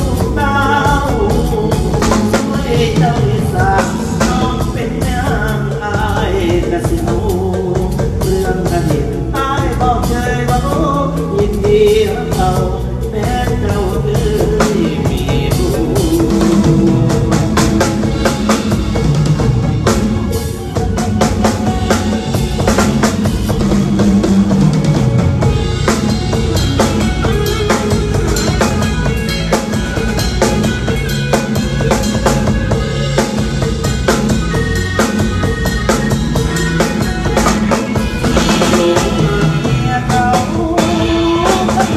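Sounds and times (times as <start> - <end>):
live band music: 0.0 - 41.9.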